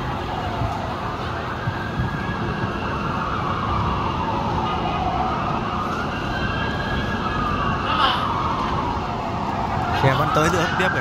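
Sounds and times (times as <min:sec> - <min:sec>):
city rumble: 0:00.0 - 0:11.0
fire engine sirens wailing: 0:00.0 - 0:11.0.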